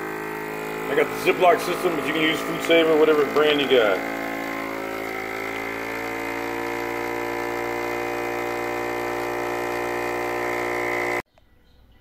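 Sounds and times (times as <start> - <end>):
vacuum sealer pump whining hum: 0.0 - 11.2.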